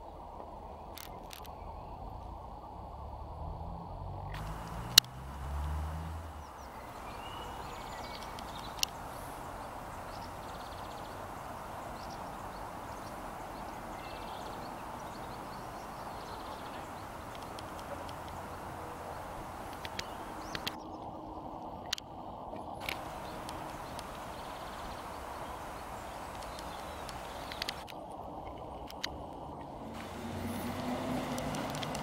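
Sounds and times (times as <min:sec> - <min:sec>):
outdoor background noise: 0:00.0 - 0:32.0
faint bird chirp: 0:04.3 - 0:21.8, 0:22.5 - 0:32.0.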